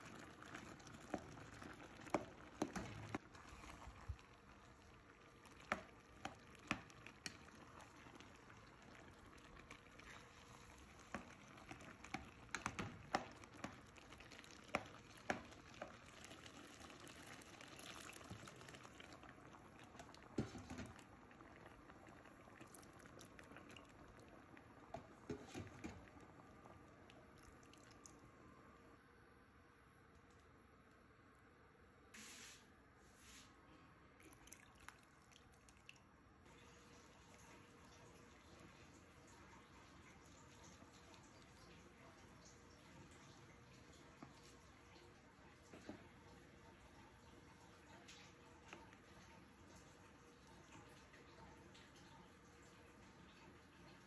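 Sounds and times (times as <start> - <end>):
water poured into pot: 0.0 - 28.4, 34.2 - 54.0
pot bubbling: 0.0 - 29.0, 34.0 - 54.0.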